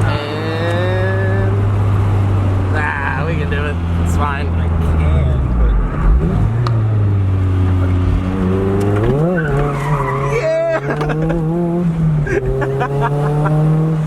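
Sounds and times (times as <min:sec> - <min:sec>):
car engine driving: 0:00.0 - 0:14.0.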